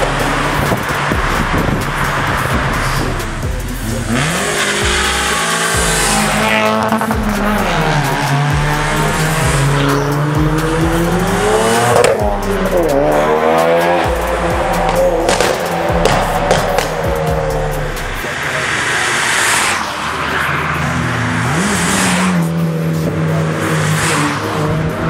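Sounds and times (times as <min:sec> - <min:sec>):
music with low beat: 0:00.0 - 0:18.6, 0:22.4 - 0:25.0
car engines revving past: 0:00.0 - 0:25.0.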